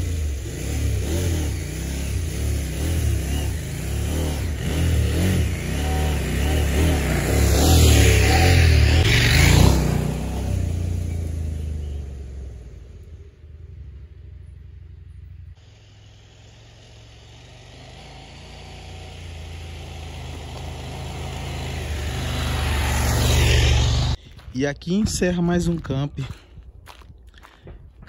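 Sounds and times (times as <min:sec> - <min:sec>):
vehicle engine running: 0:00.0 - 0:24.5.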